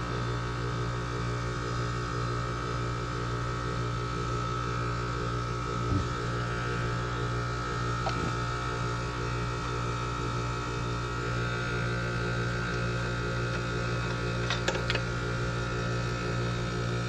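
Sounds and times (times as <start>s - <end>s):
heat pump electrical hum: 0.0s - 17.0s.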